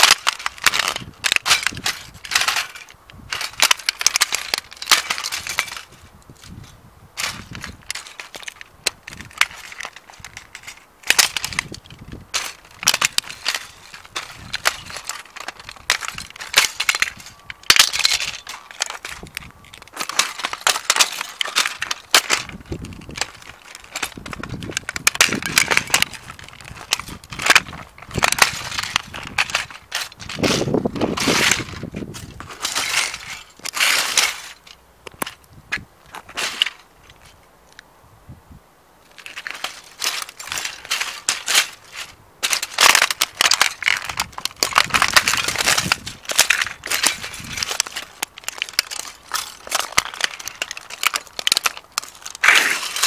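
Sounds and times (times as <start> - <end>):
plastic snapping and crunching: 0.0 - 37.4, 39.1 - 53.0.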